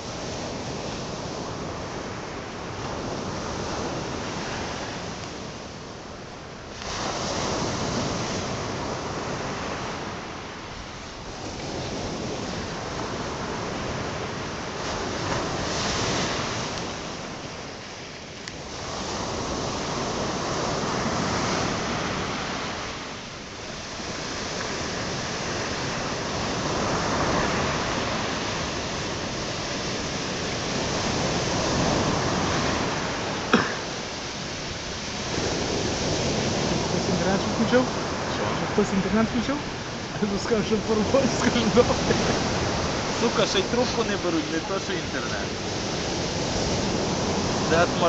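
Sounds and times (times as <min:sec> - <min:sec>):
surf breaking on shore: 0:00.0 - 0:48.0.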